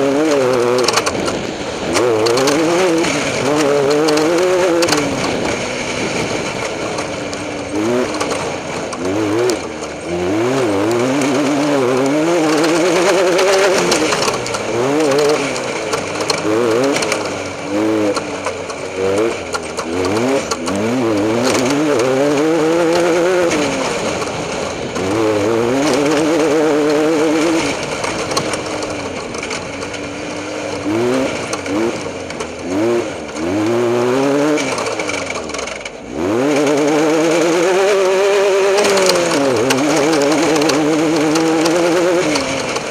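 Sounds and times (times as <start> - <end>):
constant rush of noise: 0.0 - 42.9
race vehicle engine revving: 0.0 - 42.9.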